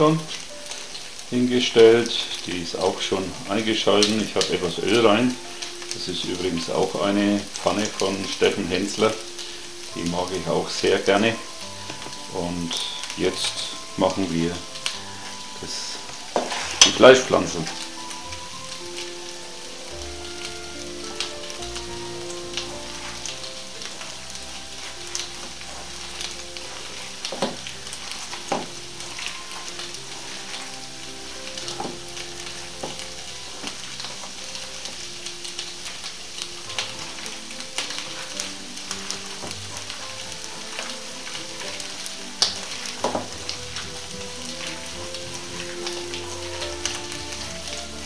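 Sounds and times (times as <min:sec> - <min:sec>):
potatoes sizzling in a pan: 0:00.0 - 0:48.0.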